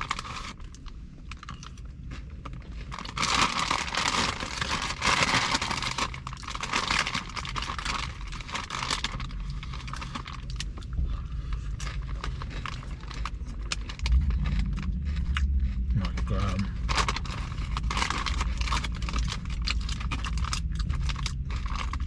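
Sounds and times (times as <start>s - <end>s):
chip bag crinkling: 0.0s - 10.9s, 11.5s - 22.0s.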